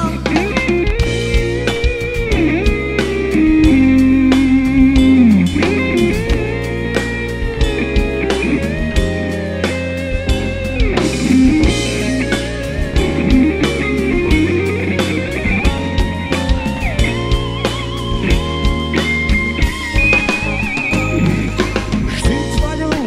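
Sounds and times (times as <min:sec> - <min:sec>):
bass guitar: 0:00.0 - 0:23.0
drum kit beat: 0:00.0 - 0:23.0
electric guitar solo: 0:00.0 - 0:23.0.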